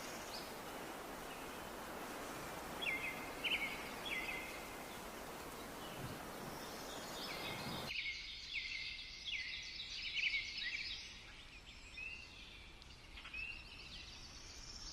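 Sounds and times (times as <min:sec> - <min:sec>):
bird chirping song: 0:00.0 - 0:02.0, 0:02.6 - 0:14.9
background hiss: 0:00.0 - 0:14.9.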